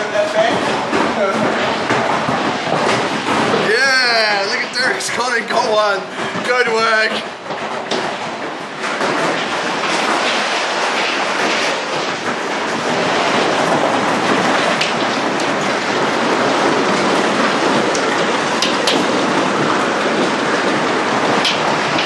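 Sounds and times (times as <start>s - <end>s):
rain and wind beating on building: 0.0s - 22.0s.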